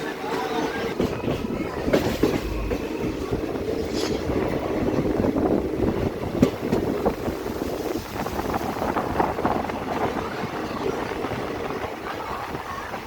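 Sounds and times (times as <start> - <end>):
train rumbling on track: 0.0 - 13.0
wheels clicking on rails: 0.0 - 13.0.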